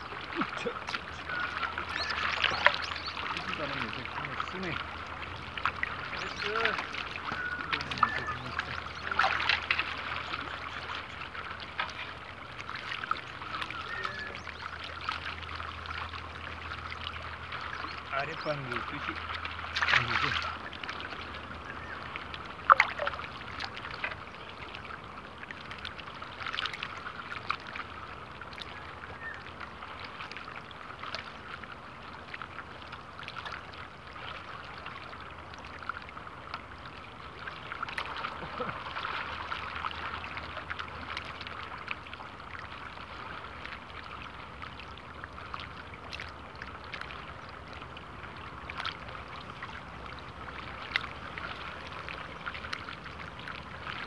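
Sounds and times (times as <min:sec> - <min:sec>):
ripples lapping at water's edge: 0:00.0 - 0:54.0.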